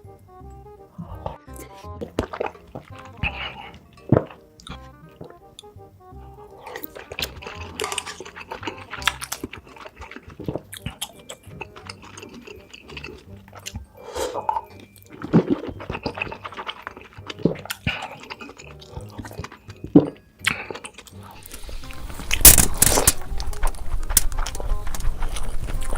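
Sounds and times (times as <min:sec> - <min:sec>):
chewing and crunching food: 0:00.7 - 0:25.9.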